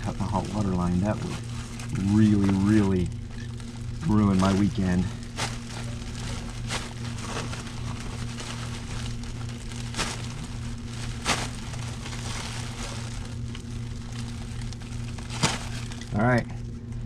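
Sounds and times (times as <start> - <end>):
foil duct crinkling: 0.0 - 17.0
steady low hum: 0.0 - 17.0.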